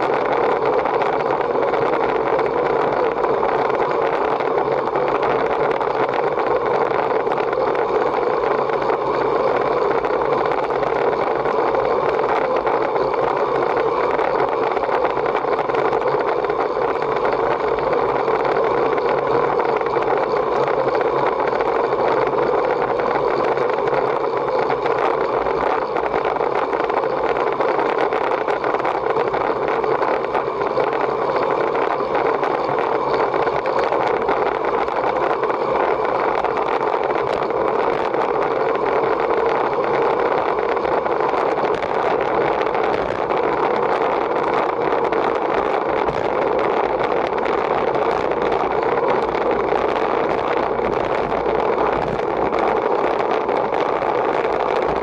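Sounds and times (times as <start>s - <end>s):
bike tyre noise: 0.0s - 55.0s.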